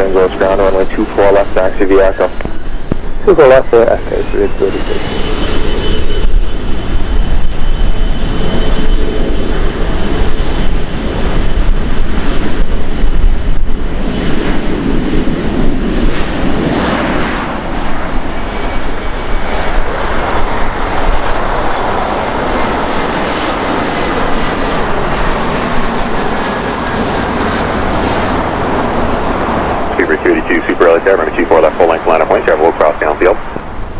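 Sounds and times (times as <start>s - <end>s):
faint high engine whine: 0.0s - 33.9s
jet engines rushing: 0.0s - 33.9s.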